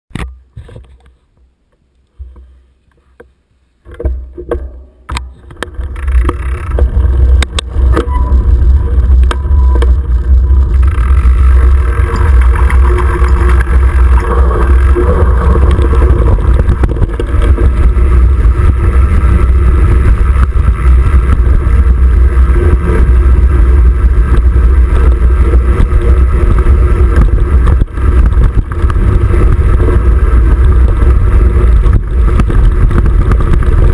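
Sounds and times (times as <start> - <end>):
steady low rumble: 1.4 - 33.9
bike knocking and rattling: 2.2 - 33.9
wind buffeting microphone: 5.4 - 33.9.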